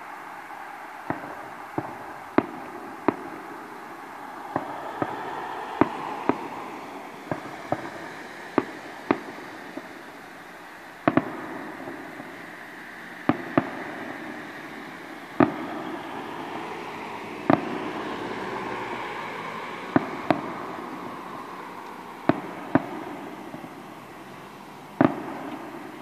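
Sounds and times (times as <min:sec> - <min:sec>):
fireworks bursting: 0:00.0 - 0:26.0
steady noisy background: 0:00.0 - 0:26.0.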